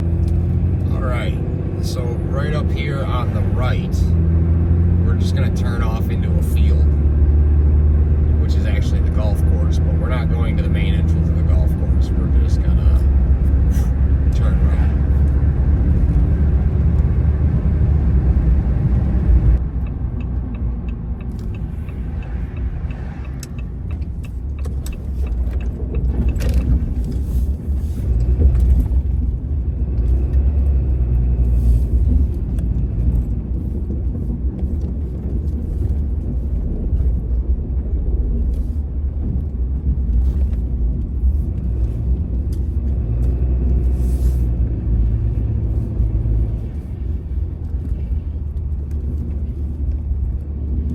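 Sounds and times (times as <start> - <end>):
truck engine and tyre rumble: 0.0 - 50.9.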